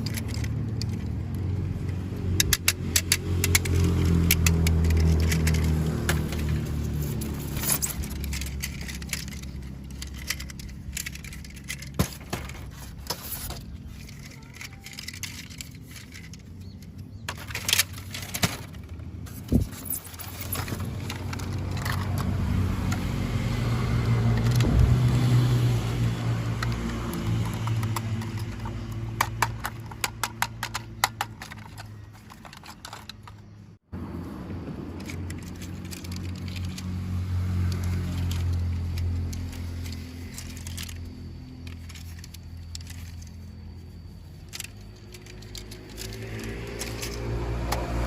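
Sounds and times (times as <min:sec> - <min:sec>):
light clicks and rattles: 0:00.0 - 0:23.1, 0:26.2 - 0:33.7, 0:35.0 - 0:48.0.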